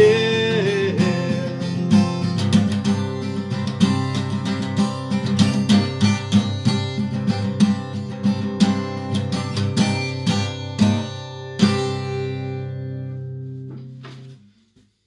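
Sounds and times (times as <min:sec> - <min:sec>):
acoustic guitar strumming: 0:00.0 - 0:14.4.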